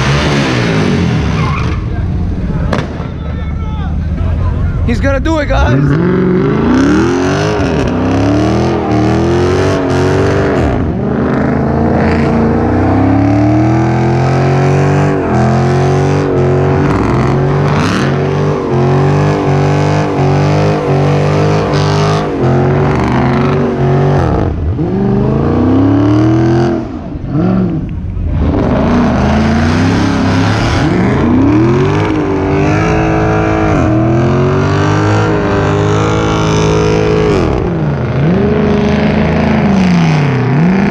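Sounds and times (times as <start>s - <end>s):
car engine revving hard: 0.0s - 2.9s, 5.5s - 40.9s.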